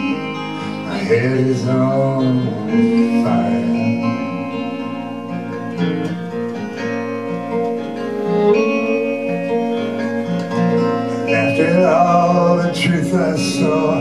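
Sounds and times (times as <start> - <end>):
band playing: 0.0 - 14.0
strummed acoustic guitar: 0.0 - 14.0
violin melody: 0.0 - 14.0.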